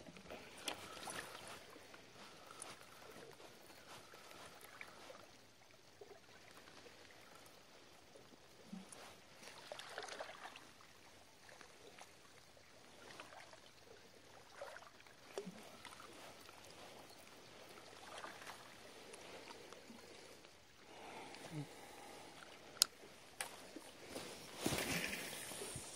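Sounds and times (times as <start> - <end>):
water lapping against rocks: 0.0 - 7.5, 8.1 - 25.9.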